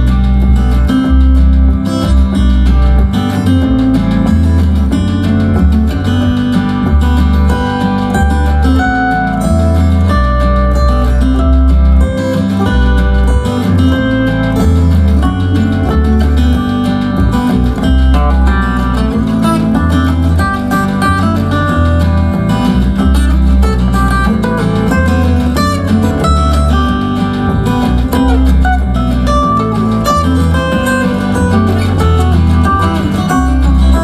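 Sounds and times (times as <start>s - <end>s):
heavy pulsing bass line: 0.0s - 34.0s
plucked and strummed guitar: 0.0s - 34.0s.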